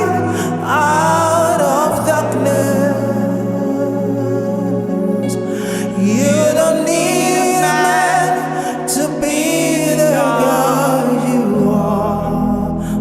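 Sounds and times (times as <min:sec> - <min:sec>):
gospel worship music: 0:00.0 - 0:13.0.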